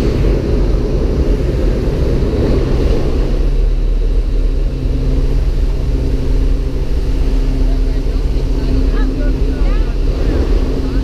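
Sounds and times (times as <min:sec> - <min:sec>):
propeller plane engines droning: 0:00.0 - 0:11.0
wind rushing: 0:00.0 - 0:11.0.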